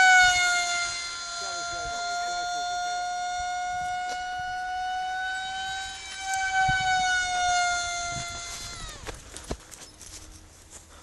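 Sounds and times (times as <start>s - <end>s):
model aircraft motor whining: 0.0s - 10.2s.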